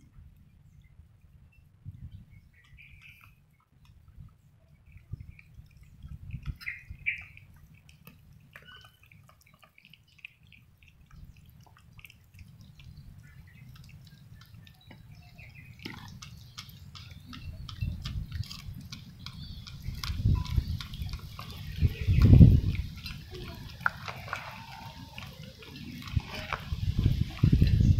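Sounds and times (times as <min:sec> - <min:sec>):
cats chewing and lapping: 0:02.5 - 0:27.9.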